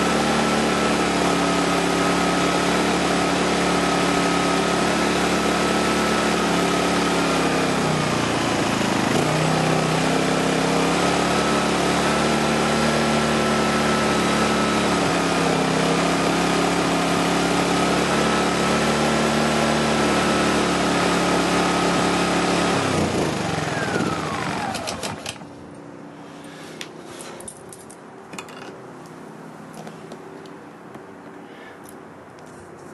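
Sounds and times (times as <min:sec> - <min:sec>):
generator engine running: 0:00.0 - 0:26.6.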